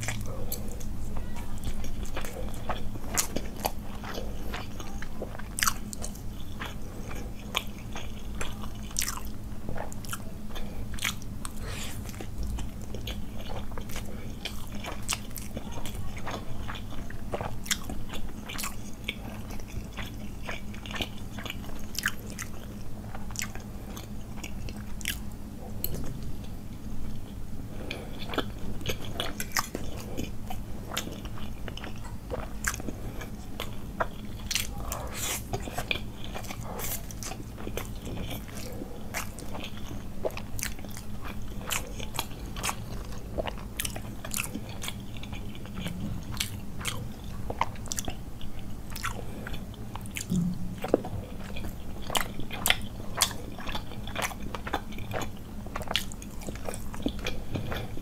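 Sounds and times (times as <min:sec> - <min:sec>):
faint low hum: 0:00.0 - 0:58.0
close chewing mouth clicks: 0:01.6 - 0:26.1, 0:27.9 - 0:58.0.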